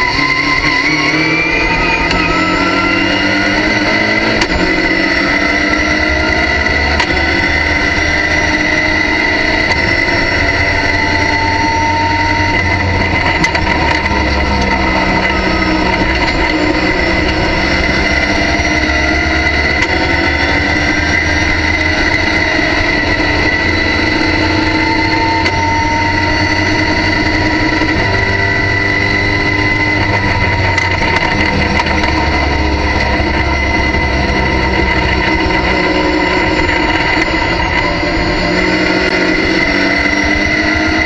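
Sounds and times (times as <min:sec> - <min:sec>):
racing car engine accelerating: 0:00.0 - 0:41.0
steady high whine: 0:00.0 - 0:41.0.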